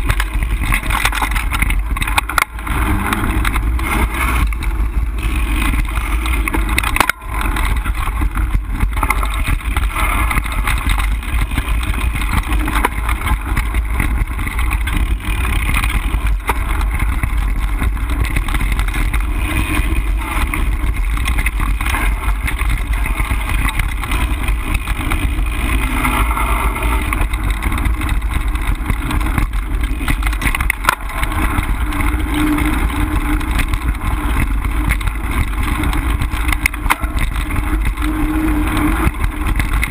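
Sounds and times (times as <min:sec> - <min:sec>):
bike rolling over dirt trail: 0:00.0 - 0:39.9.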